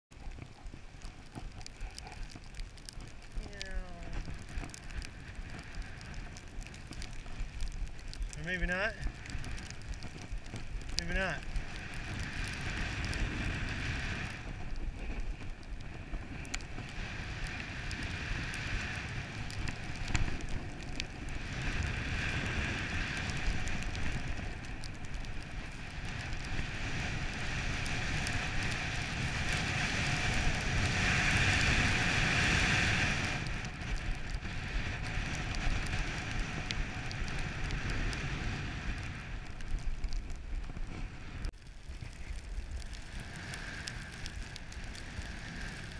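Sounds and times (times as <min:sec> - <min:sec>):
snowboard scraping over snow: 0:00.2 - 0:45.9
wind over microphone: 0:00.2 - 0:45.9.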